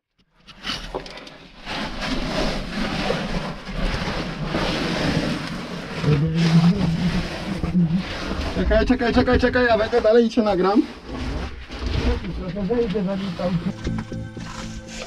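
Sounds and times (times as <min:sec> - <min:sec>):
clothing scraping against rock: 0:01.6 - 0:13.8.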